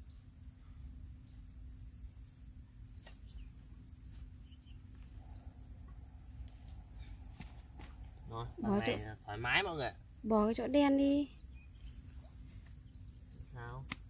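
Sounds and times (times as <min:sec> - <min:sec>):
bird chirps: 0:00.0 - 0:06.1, 0:07.0 - 0:14.0.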